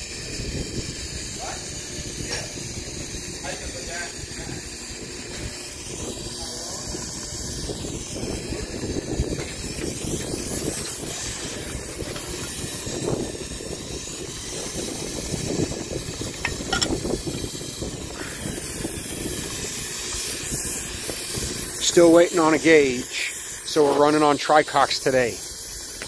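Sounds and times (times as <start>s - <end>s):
steam hissing: 0.0s - 26.0s.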